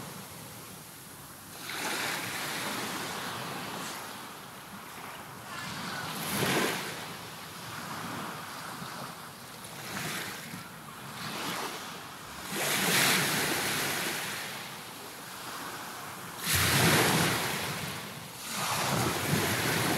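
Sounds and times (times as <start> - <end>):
sea waves breaking: 0.0 - 19.9.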